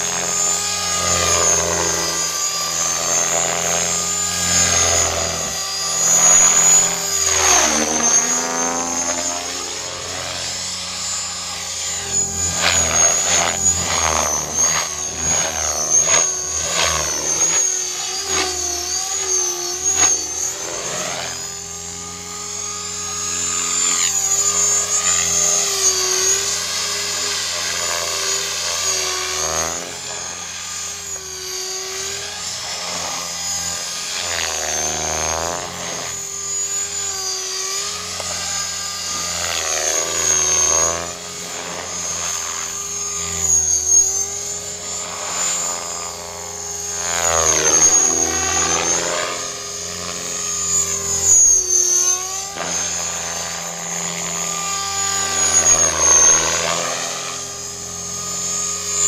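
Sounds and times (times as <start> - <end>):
model helicopter rotor and motor whine: 0.0 - 59.0.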